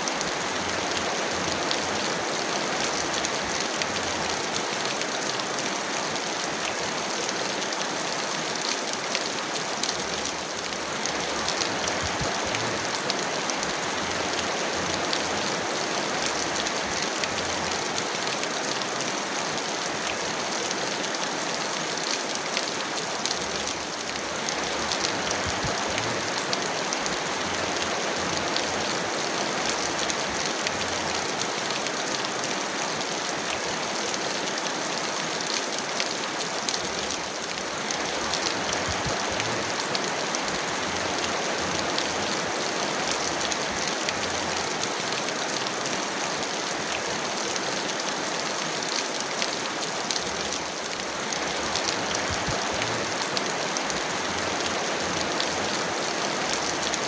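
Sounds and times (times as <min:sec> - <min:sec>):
heavy rain hissing: 0:00.0 - 0:57.0
raindrops ticking on a surface: 0:00.0 - 0:57.0.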